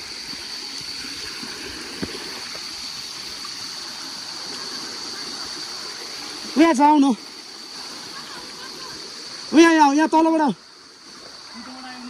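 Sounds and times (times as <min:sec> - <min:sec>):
forest stream flowing: 0:00.0 - 0:12.0.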